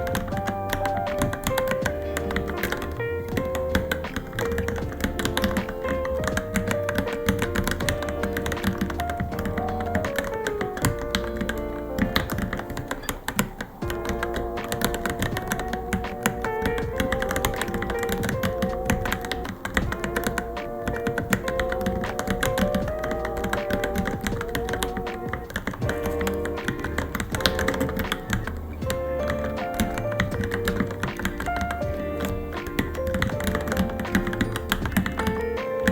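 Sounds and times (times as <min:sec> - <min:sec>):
background music with melody: 0:00.0 - 0:35.9
mechanical keyboard typing: 0:00.0 - 0:35.9.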